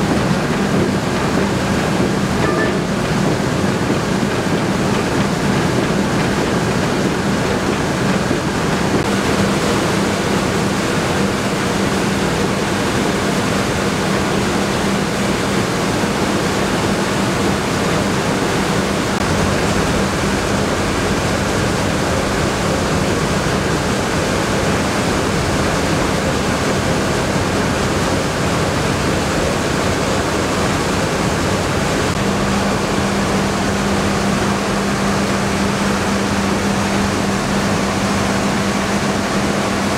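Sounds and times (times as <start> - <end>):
mill machinery running: 0.0 - 39.9.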